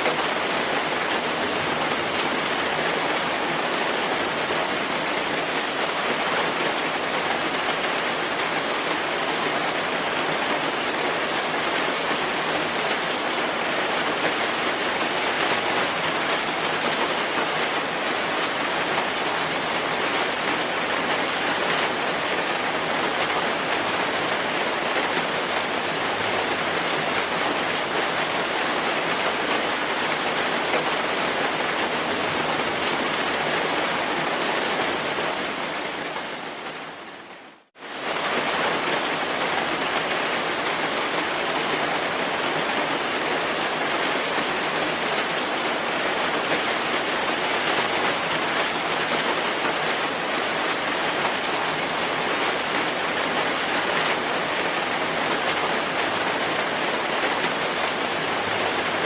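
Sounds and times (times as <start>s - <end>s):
dense rainfall: 0.0s - 59.0s.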